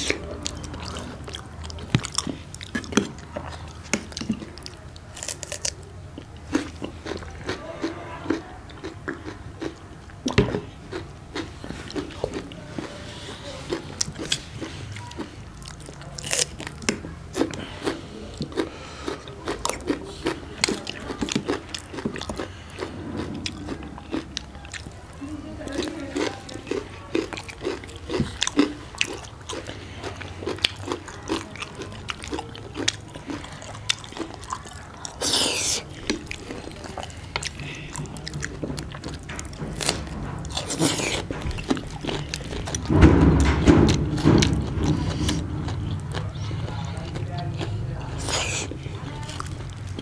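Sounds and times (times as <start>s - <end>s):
crunchy chewing: 0.0s - 50.0s.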